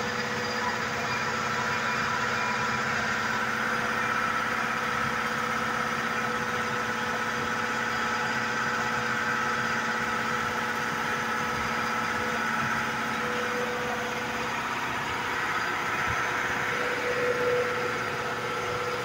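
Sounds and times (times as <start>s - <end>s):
air compressor running: 0.0s - 19.0s.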